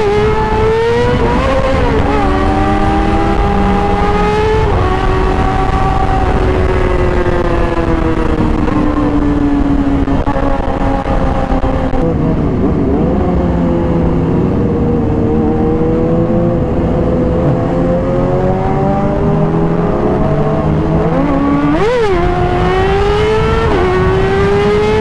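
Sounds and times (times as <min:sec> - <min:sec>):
motorcycle engine revving: 0:00.0 - 0:25.0
wind noise: 0:00.0 - 0:25.0.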